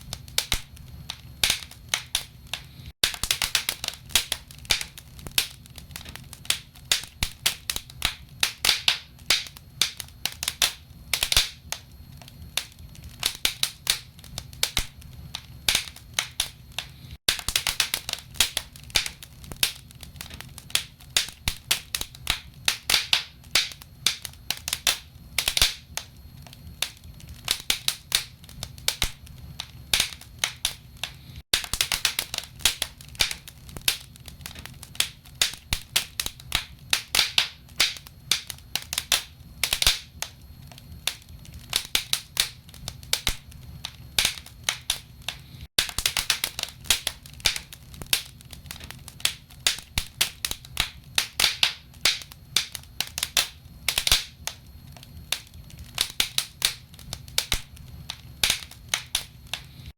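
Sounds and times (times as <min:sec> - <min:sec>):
fire low rumble: 0:00.0 - 0:59.9
logs crackling and popping: 0:00.0 - 0:59.9.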